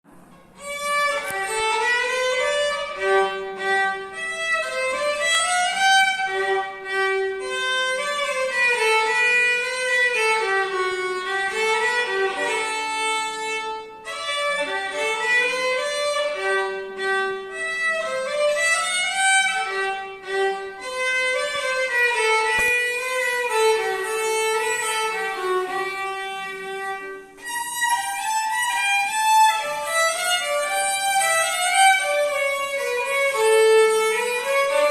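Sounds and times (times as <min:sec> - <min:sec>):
violin melody: 0:00.1 - 0:34.9.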